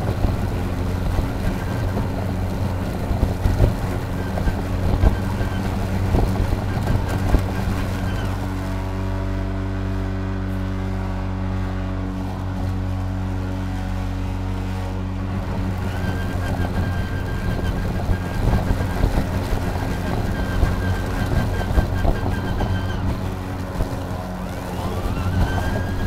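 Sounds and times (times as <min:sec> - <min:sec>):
grass rustling being cut: 0:00.0 - 0:26.0
high whine: 0:00.0 - 0:26.0
lawn mower motor hum: 0:00.0 - 0:26.0.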